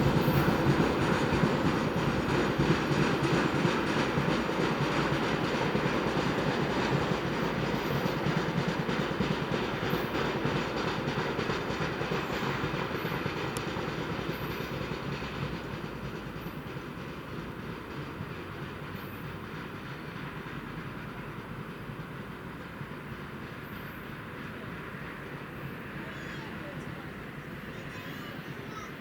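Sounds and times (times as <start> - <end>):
train wheels clattering: 0.0 - 29.0.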